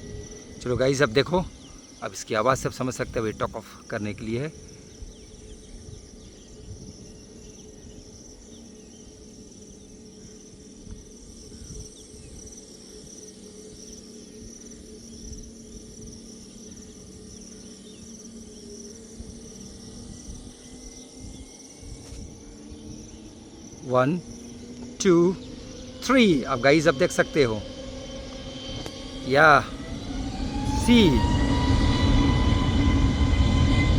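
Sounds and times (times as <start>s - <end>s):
distant jet engines humming: 0.0s - 33.9s
insects chirring: 0.0s - 33.9s.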